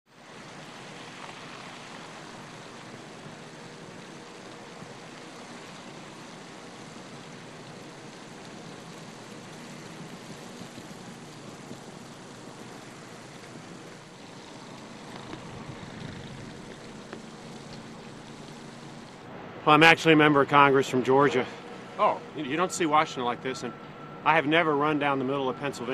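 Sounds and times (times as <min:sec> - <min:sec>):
snowstorm hiss: 0:00.1 - 0:21.0.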